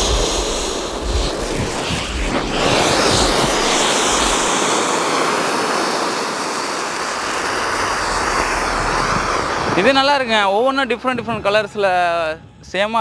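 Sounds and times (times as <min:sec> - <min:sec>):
fireworks hissing: 0:00.0 - 0:10.9.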